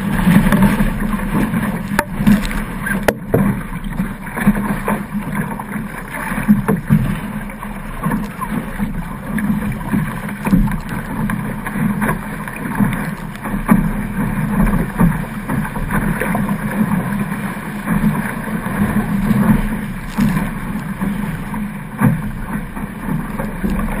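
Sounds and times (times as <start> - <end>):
rush of water and spray: 0.0 - 24.0
water slapping against hull: 0.0 - 24.0.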